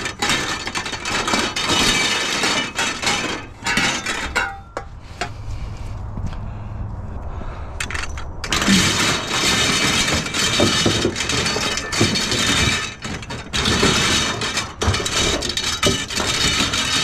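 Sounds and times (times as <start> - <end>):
scrap metal scraping and rattling: 0.0 - 5.7, 7.8 - 17.0.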